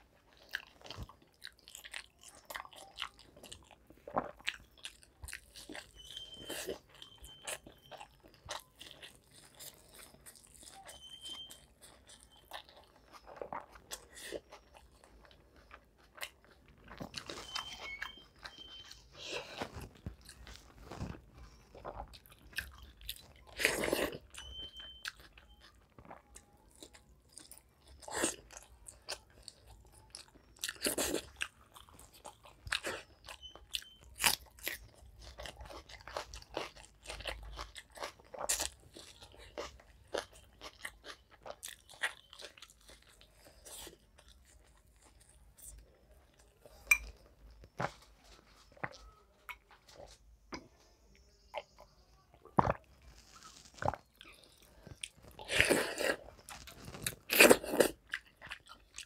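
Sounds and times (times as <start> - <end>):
person crunching and chewing food: 0.0 - 59.0.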